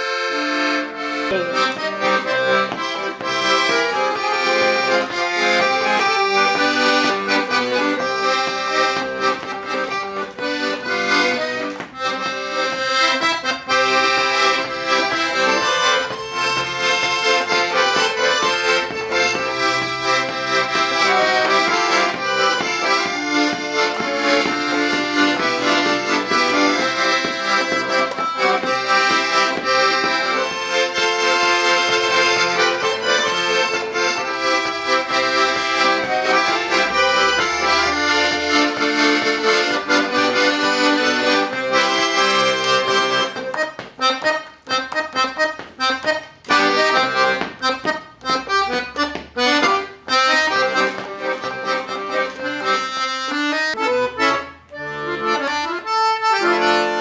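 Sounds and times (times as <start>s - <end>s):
accordion playing tune: 0.0s - 57.0s.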